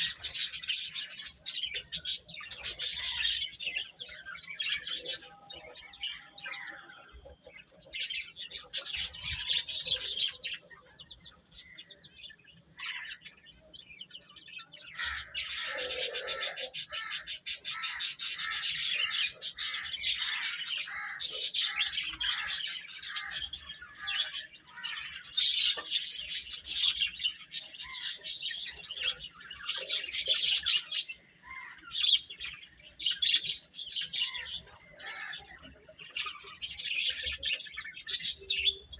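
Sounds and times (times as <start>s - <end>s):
baby chickens peeping: 0.0s - 38.9s.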